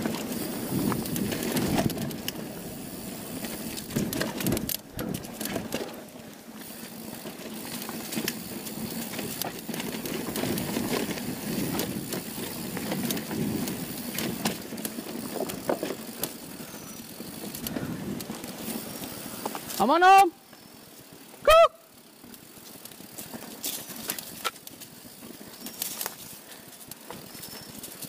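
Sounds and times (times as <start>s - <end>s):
bike clicks and rattles: 0.0s - 28.0s
bike tyres rolling on dirt: 0.0s - 28.0s.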